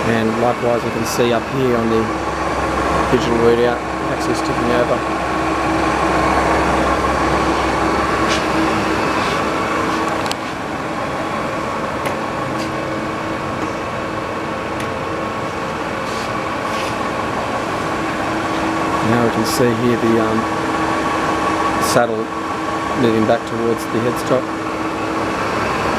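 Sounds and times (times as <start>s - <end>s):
lathe humming and whining: 0.0s - 25.9s.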